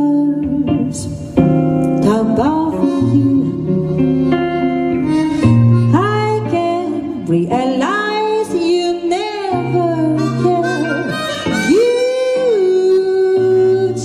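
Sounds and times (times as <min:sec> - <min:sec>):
woman singing jazz ballad: 0:00.0 - 0:04.1, 0:05.8 - 0:14.0
guitar chords: 0:00.0 - 0:14.0.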